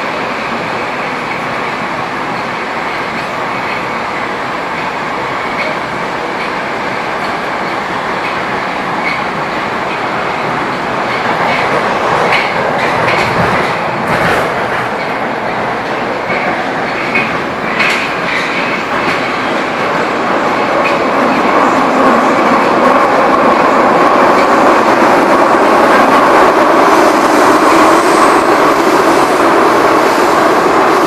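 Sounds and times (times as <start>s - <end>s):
metro train wheels rumbling: 0.0s - 31.0s
track clacks: 4.7s - 31.0s.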